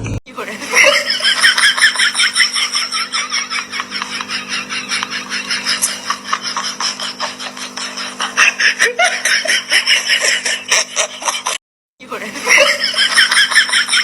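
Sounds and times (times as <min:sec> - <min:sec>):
steady hum: 0:00.0 - 0:11.5, 0:12.1 - 0:14.0
people laughing: 0:00.3 - 0:14.0.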